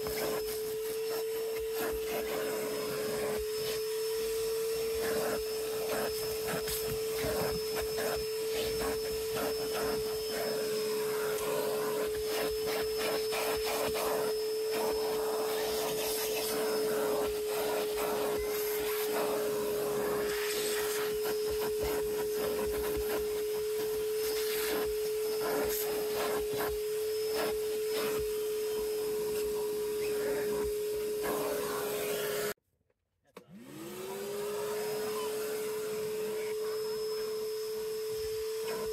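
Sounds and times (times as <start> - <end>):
vacuum cleaner motor whine: 0.0 - 32.6, 33.4 - 38.9
vacuum nozzle scraping carpet: 0.0 - 32.6, 33.4 - 38.9.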